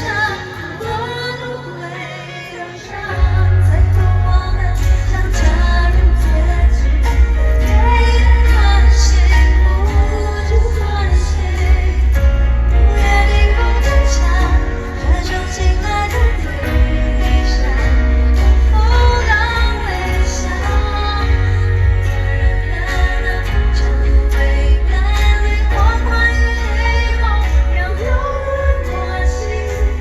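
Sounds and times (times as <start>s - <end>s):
woman singing a ballad: 0.0s - 30.0s
band with booming bass: 3.2s - 30.0s.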